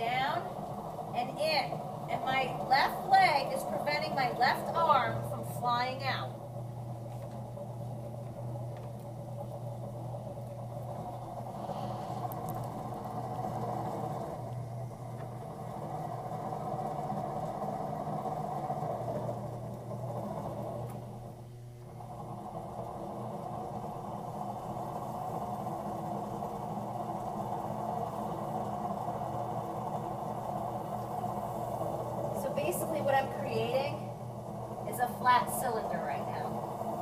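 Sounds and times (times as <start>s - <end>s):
potter's wheel motor hum: 0.0s - 37.0s.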